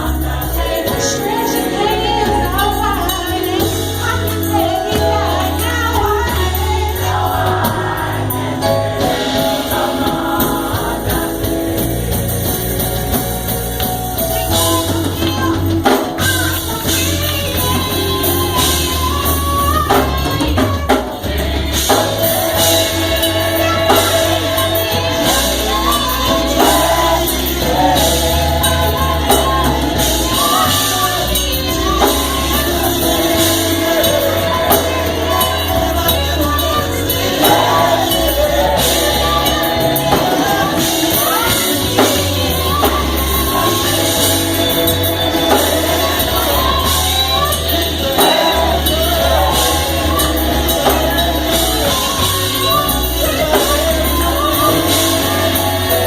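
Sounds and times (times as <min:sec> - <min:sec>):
bass line: 0:00.0 - 0:56.0
gospel choir singing: 0:00.0 - 0:56.0
percussion: 0:00.0 - 0:56.0.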